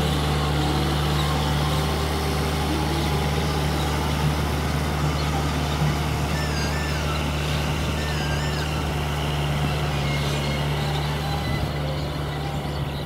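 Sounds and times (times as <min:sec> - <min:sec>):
short wavering whistles: 0:00.0 - 0:13.0
tractor diesel engine running: 0:00.0 - 0:13.0.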